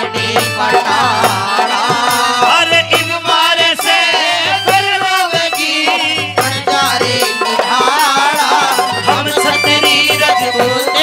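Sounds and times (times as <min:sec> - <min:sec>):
person singing: 0:00.0 - 0:11.0
rattling percussion: 0:00.0 - 0:11.0
steady drum beat: 0:00.0 - 0:11.0.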